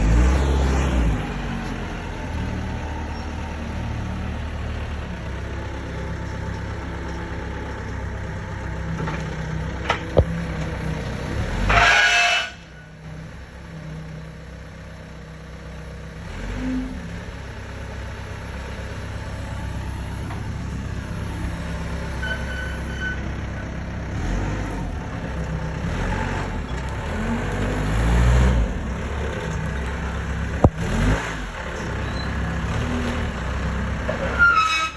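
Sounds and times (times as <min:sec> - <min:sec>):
vehicle engine running: 0:00.0 - 0:34.4.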